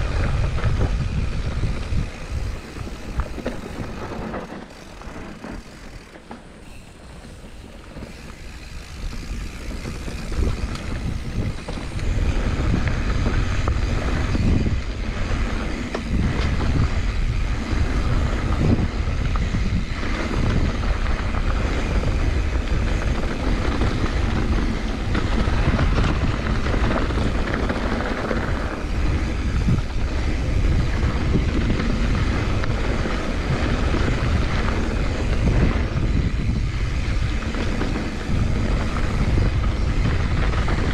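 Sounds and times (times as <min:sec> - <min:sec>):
bike rattling over bumps: 0:00.0 - 0:40.9
bike tyres rolling over dirt: 0:00.0 - 0:40.9
wind rumble on microphone: 0:00.0 - 0:40.9.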